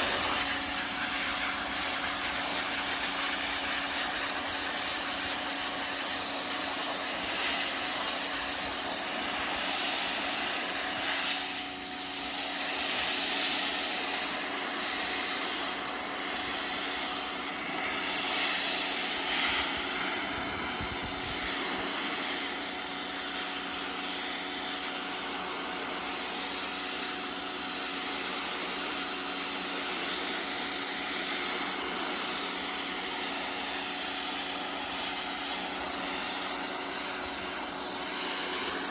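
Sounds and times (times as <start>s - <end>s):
hissing spray jet: 0.0s - 38.9s
pressure washer motor humming: 0.0s - 38.9s.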